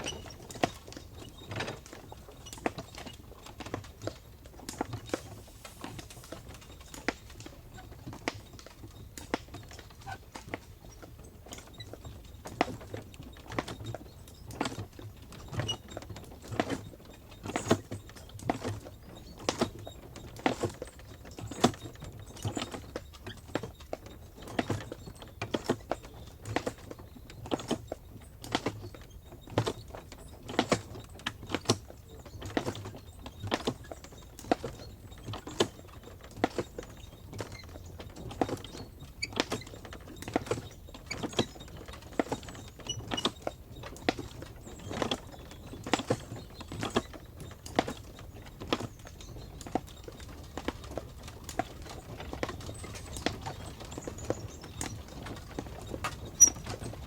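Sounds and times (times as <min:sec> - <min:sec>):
hooves clip-clopping: 0:00.0 - 0:57.0.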